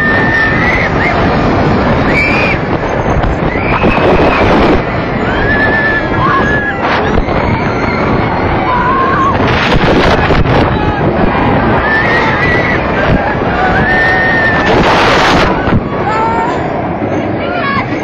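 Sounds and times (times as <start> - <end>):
roller coaster riders screaming: 0.0 - 18.0
wind rushing on microphone: 0.0 - 18.0.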